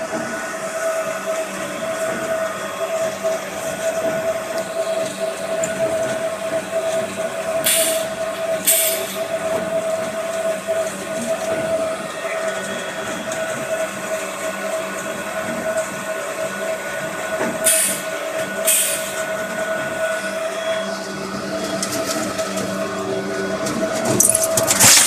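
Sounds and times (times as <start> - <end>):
foam compactor whine and hum: 0.0 - 25.0.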